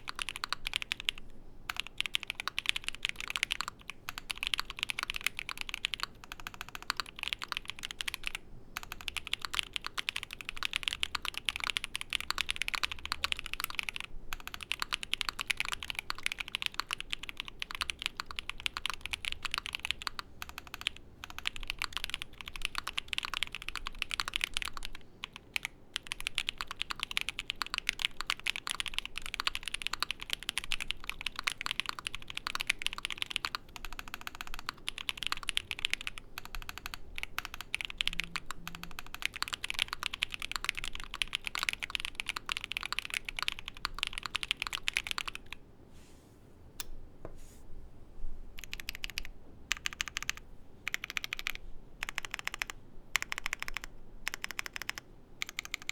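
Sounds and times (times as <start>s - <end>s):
mechanical keyboard typing: 0.0s - 45.6s, 48.6s - 55.9s.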